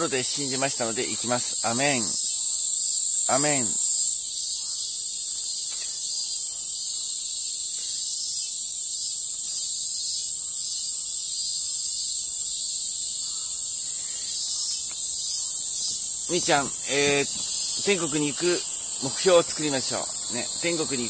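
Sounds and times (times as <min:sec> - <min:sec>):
cicadas buzzing: 0:00.0 - 0:21.0
faint pulsing buzz: 0:00.0 - 0:21.0.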